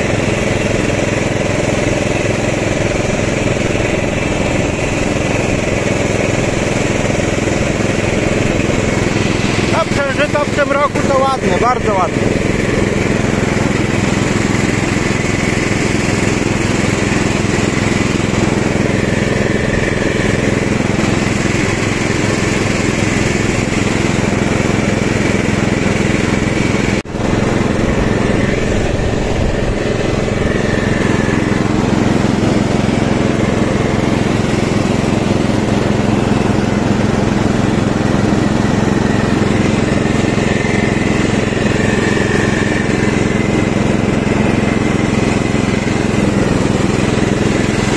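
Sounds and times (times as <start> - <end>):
lawn tractor engine running: 0.0 - 47.9.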